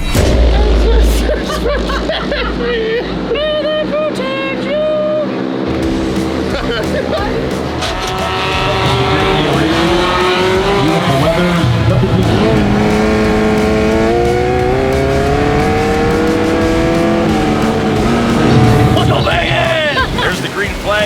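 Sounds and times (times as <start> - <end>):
race engines revving: 0.0 - 21.0.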